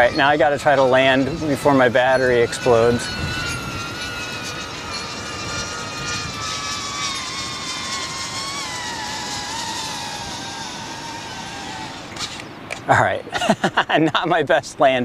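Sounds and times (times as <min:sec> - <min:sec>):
drone propellers and motors whining: 0:00.0 - 0:13.3
wind noise: 0:00.0 - 0:13.8.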